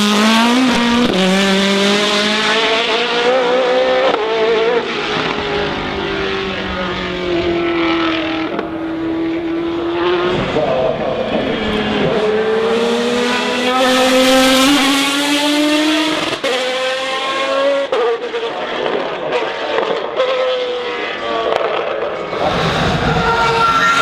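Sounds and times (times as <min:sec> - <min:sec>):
race car engine upshifting: 0:00.0 - 0:24.0
second race car engine: 0:00.0 - 0:24.0.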